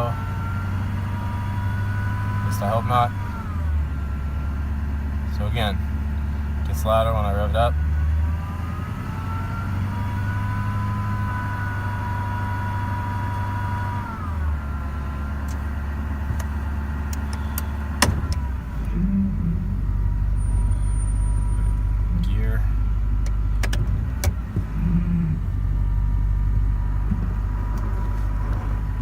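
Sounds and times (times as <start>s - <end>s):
diesel engine revving: 0.0s - 29.0s
high alternator whine: 0.0s - 29.0s.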